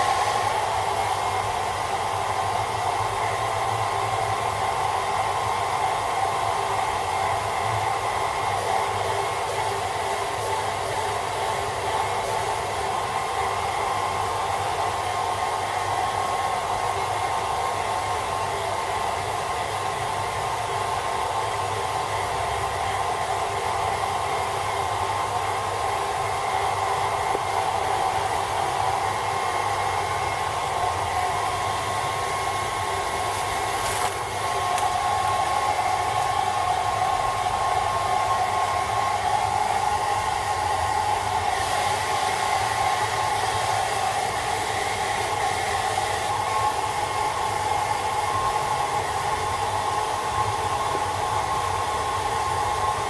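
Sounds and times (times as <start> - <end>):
hairdryer whirring with high whine: 0.0 - 53.0.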